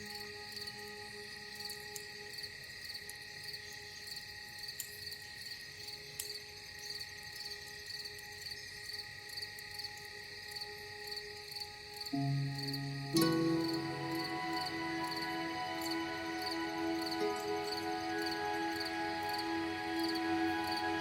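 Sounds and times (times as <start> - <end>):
crickets chirping: 0.0 - 21.0
soft ambient music tones: 0.0 - 21.0.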